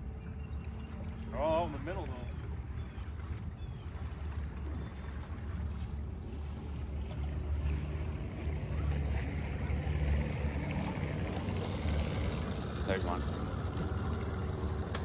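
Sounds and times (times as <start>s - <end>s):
outboard motor rumbling: 0.0s - 15.0s
water noise: 0.0s - 15.0s.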